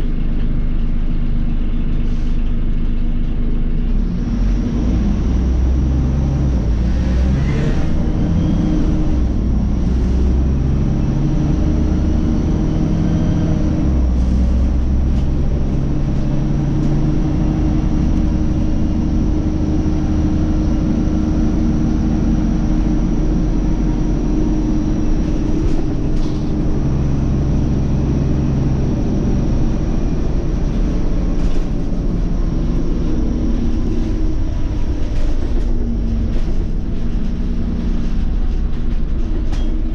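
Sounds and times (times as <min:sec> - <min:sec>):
bus engine rumbling: 0:00.0 - 0:39.9.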